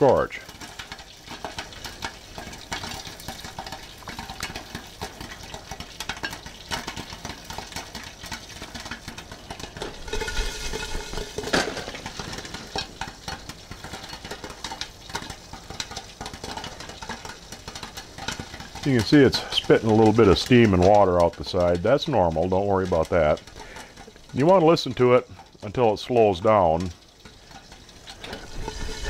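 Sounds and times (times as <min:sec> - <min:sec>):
popcorn popping in grease: 0:00.0 - 0:29.0
pot shaken on burner: 0:00.0 - 0:29.0.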